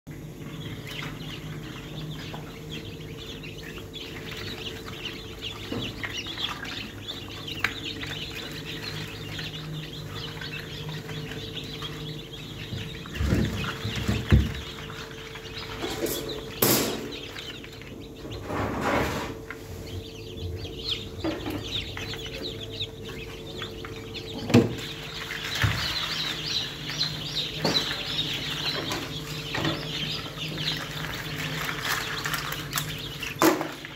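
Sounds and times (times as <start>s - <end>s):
chicks peeping: 0.1s - 33.9s
incubator hum: 0.1s - 33.9s.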